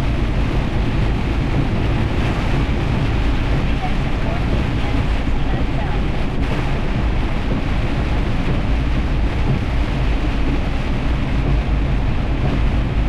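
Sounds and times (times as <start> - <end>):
heavy rain: 0.0 - 13.0
road noise: 0.0 - 13.0
truck engine rumble: 0.0 - 13.0
wind noise: 0.0 - 13.0.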